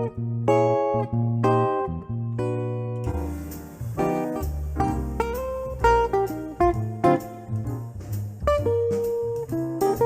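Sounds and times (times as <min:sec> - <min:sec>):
jazz guitar plucking melody: 0:00.0 - 0:10.0.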